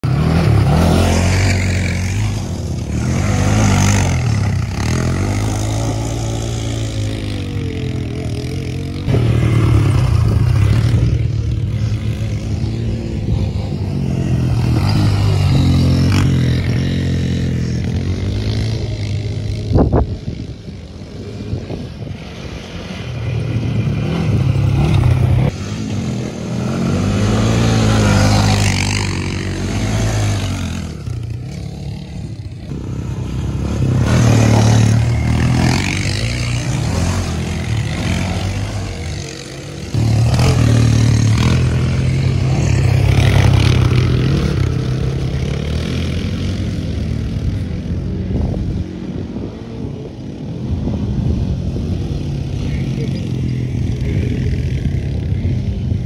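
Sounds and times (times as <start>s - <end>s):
atv engines revving: 0.0s - 56.0s.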